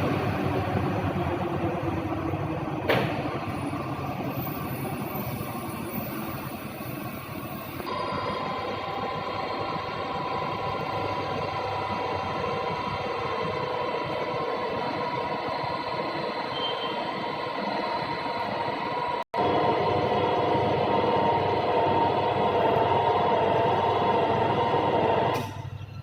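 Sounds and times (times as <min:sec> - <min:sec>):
lathe machine hum with gear whine: 0:00.0 - 0:26.0.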